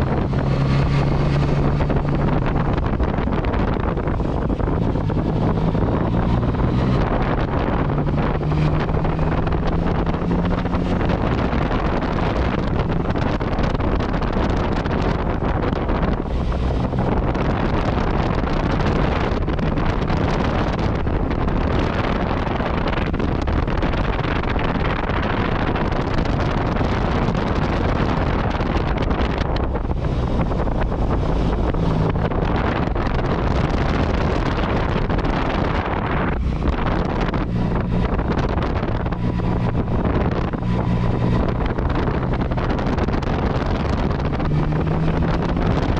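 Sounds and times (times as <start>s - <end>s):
motorcycle engine humming: 0.0s - 45.9s
wind rushing over microphone: 0.0s - 45.9s.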